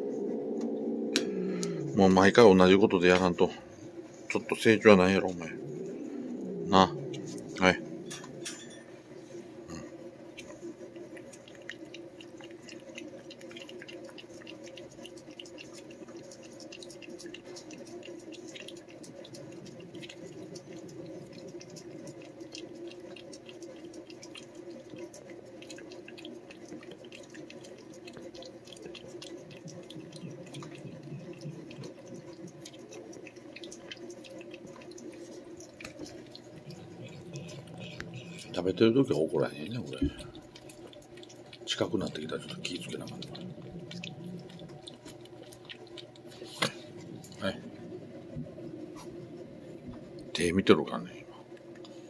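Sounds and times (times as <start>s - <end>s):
low hum: 0.0s - 15.2s, 15.8s - 50.6s
cat licking: 0.3s - 8.6s, 10.3s - 50.4s.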